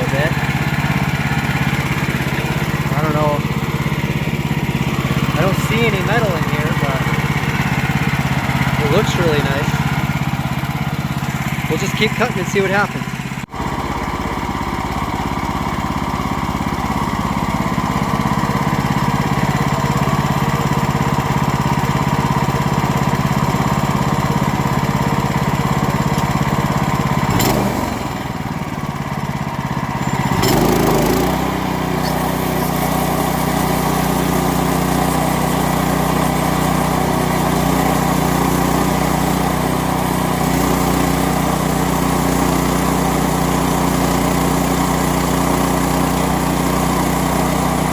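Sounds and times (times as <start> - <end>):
band saw cutting log: 0.0 - 13.1, 16.6 - 47.9
gasoline engine running: 0.0 - 47.9.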